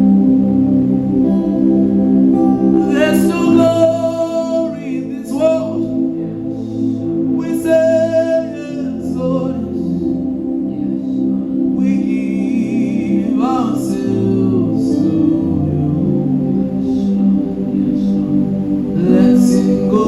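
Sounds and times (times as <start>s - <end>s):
held chords: 0.0s - 20.0s
person singing long notes: 1.1s - 20.0s.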